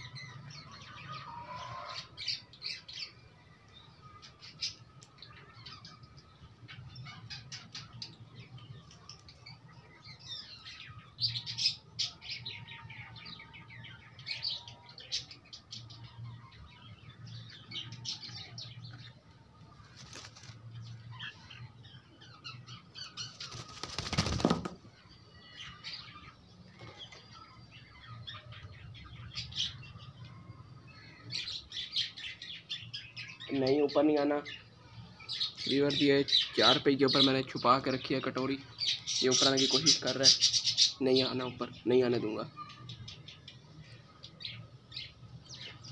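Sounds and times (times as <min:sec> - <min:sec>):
chickens chirping and clucking: 0:00.0 - 0:03.2, 0:04.0 - 0:45.9.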